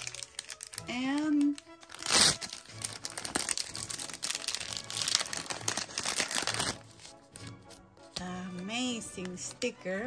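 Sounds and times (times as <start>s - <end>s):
packaging crinkling and crackling: 0.0s - 8.2s.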